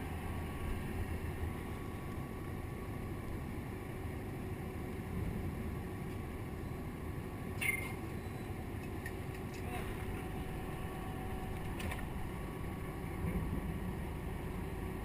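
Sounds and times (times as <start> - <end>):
engine and water rumble: 0.0 - 15.0.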